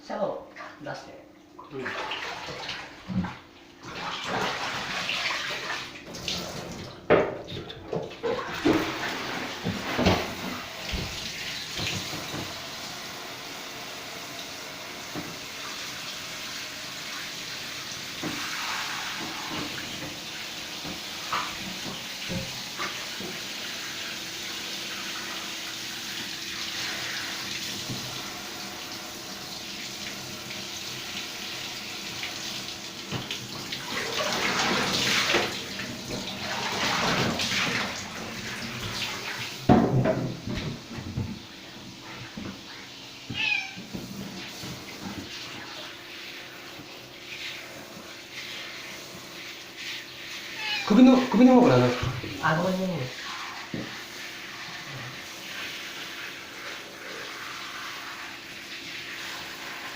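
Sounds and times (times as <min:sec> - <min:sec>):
water splashes and knocks: 0:01.6 - 0:12.7, 0:14.4 - 0:16.4, 0:17.3 - 0:24.0, 0:24.7 - 0:28.6, 0:29.3 - 0:52.9, 0:53.6 - 0:57.4
shower water spraying: 0:01.8 - 0:07.0, 0:08.2 - 0:59.9.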